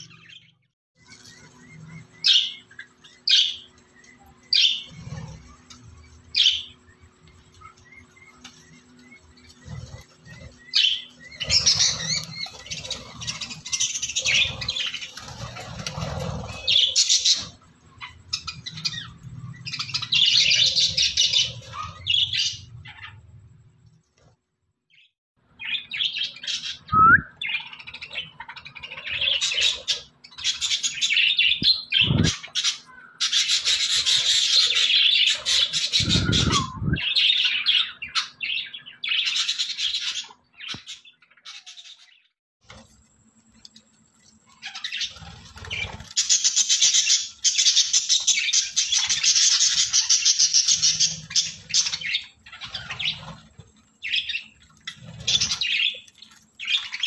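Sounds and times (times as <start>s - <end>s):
budgerigars chattering and warbling: 0.0s - 23.2s, 25.0s - 42.3s, 44.4s - 57.0s.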